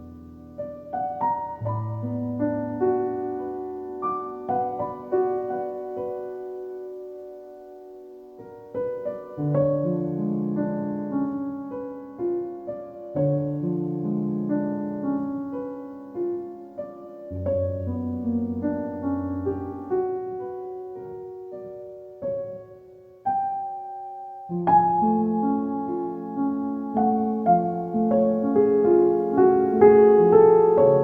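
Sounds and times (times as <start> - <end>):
gentle solo piano: 0.0 - 31.0.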